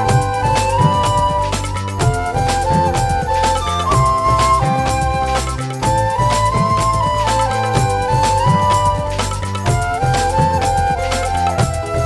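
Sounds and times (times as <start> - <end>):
instrumental song with percussion: 0.0 - 12.0.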